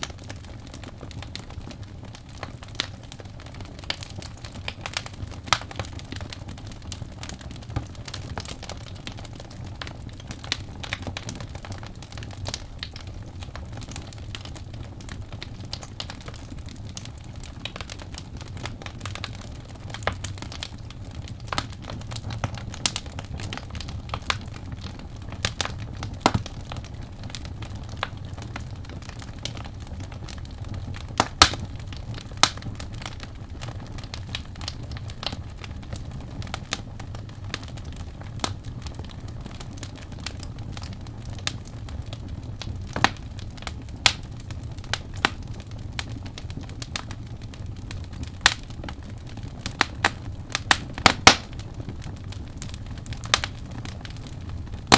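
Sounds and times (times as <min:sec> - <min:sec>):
burning wood crackling and popping: 0:00.0 - 0:54.9
fire flames rumbling: 0:00.0 - 0:54.9.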